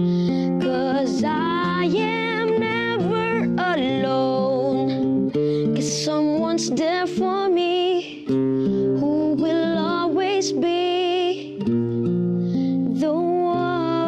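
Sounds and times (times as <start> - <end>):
person singing with vibrato: 0.0 - 11.6, 12.9 - 14.0
strummed acoustic guitar: 0.0 - 14.0.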